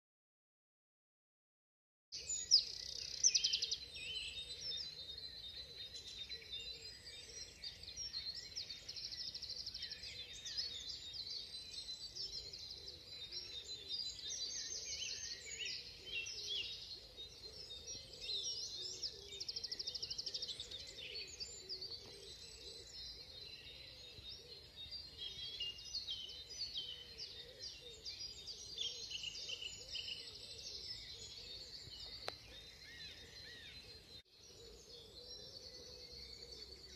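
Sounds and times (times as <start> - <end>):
songbirds singing: 2.2 - 36.9.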